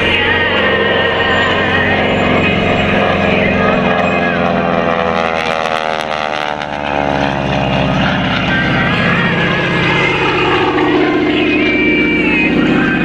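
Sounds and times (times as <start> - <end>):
propeller airplane engine: 0.0 - 13.0.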